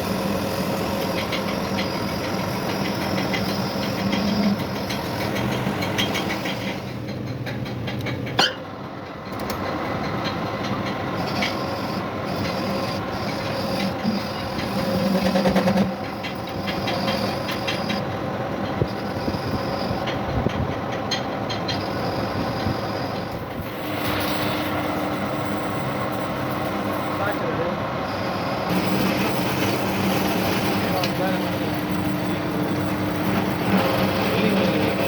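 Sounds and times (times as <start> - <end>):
workshop machinery running: 0.0 - 35.0.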